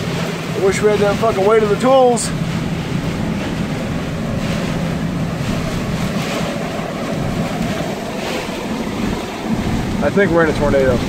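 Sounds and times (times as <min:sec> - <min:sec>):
strong wind buffeting truck: 0:00.0 - 0:11.0.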